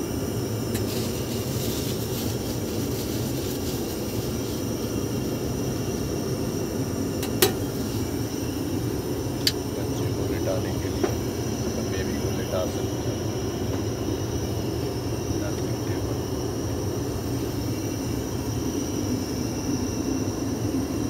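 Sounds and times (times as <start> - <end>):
airliner cabin noise: 0.0 - 21.0.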